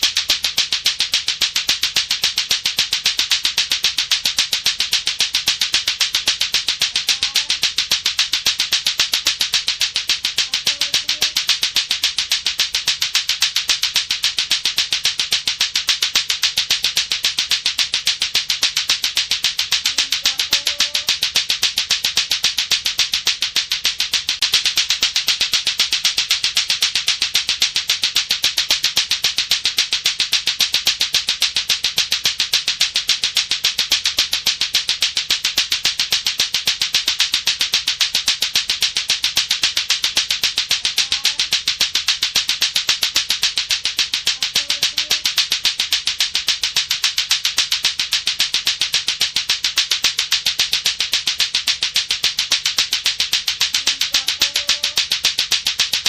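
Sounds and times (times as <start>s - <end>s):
clacker balls clacking: 0.0s - 56.0s.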